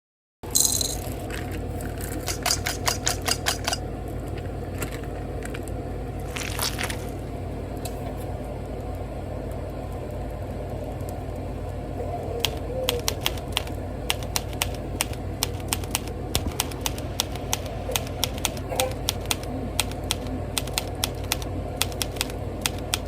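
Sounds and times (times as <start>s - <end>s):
steady low hum: 0.4s - 23.0s.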